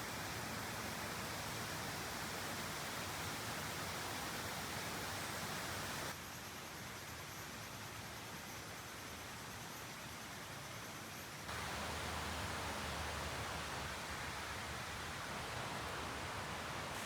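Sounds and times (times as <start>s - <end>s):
outdoor ambient hiss: 0.0s - 17.0s.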